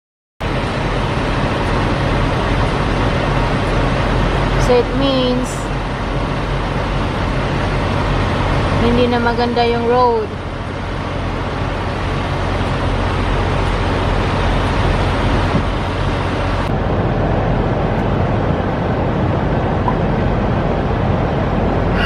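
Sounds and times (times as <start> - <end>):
truck engine rumble and hiss: 0.4 - 22.0.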